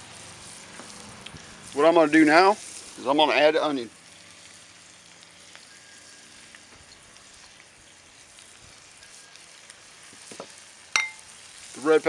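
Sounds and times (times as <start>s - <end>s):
meat and onion sizzling in skillet: 0.0s - 12.0s.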